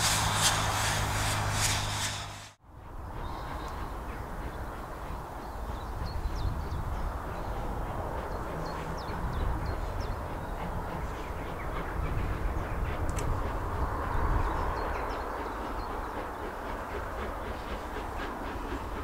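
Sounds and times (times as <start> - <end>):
distant steam locomotive: 0.0 - 19.0
wind rumble: 0.0 - 19.0
birds calling: 2.8 - 19.0.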